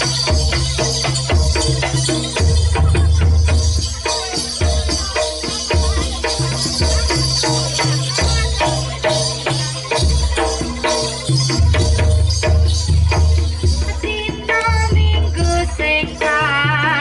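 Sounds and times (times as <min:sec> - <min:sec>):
jingling rattle: 0:00.0 - 0:17.0
percussion ensemble drums and gongs: 0:00.0 - 0:17.0.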